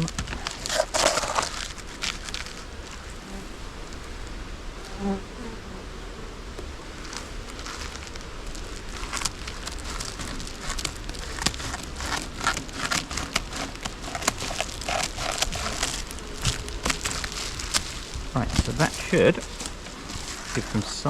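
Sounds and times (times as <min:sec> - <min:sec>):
aluminium foil crinkling: 0:00.0 - 0:03.2, 0:06.6 - 0:21.0.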